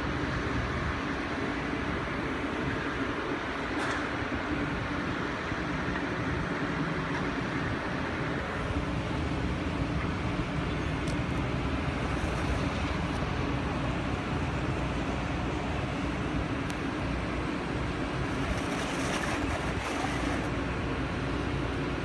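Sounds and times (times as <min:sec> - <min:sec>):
crane diesel engine droning: 0:00.0 - 0:22.0.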